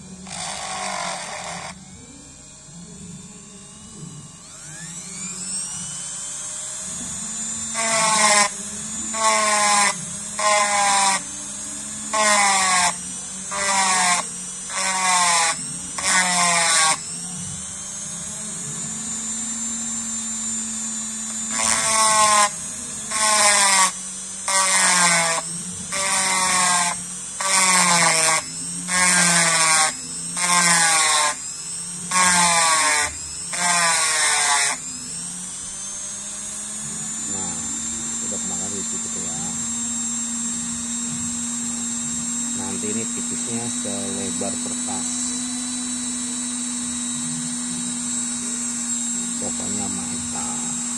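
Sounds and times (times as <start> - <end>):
rotary tool whining: 0.0 - 50.9.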